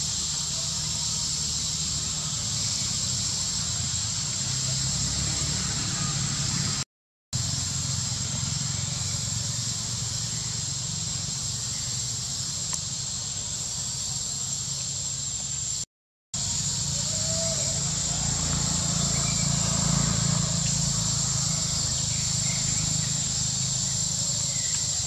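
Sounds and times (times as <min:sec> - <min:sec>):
forest insects droning: 0:00.0 - 0:06.8, 0:07.4 - 0:25.0.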